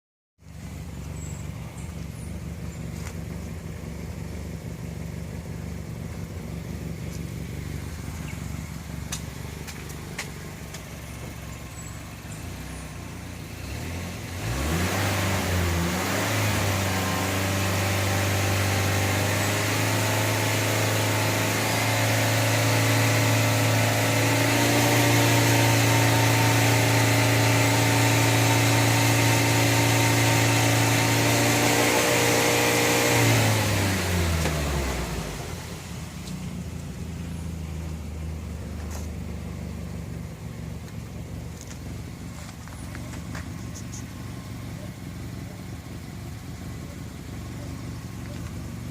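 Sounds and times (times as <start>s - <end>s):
car engine idling and revving: 0.4s - 48.9s.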